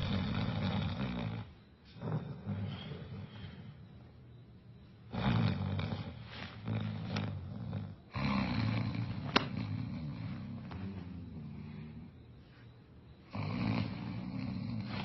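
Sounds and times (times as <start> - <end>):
loud rumbling snoring: 0.0 - 3.9, 5.1 - 12.2, 13.3 - 15.0.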